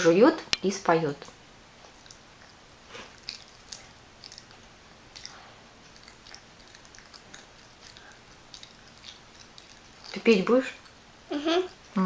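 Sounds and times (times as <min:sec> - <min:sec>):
child chewing food: 0:01.3 - 0:12.0.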